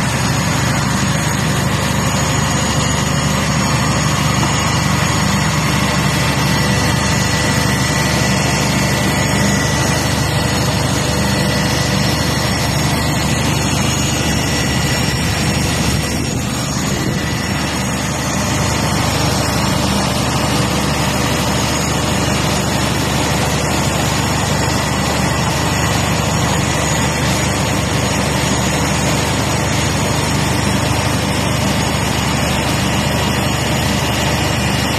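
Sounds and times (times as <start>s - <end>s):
machinery droning: 0.0s - 34.9s.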